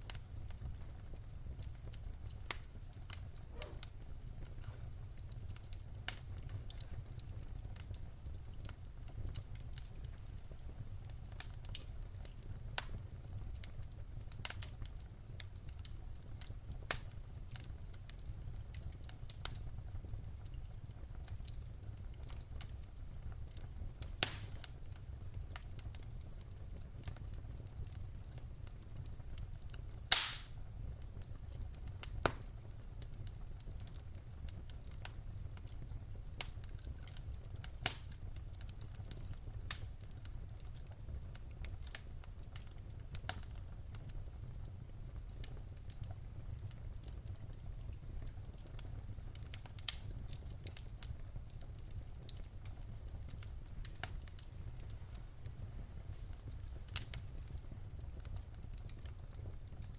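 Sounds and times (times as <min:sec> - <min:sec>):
low rumble of fire: 0:00.0 - 0:59.9
wood fire crackling: 0:00.0 - 0:59.9.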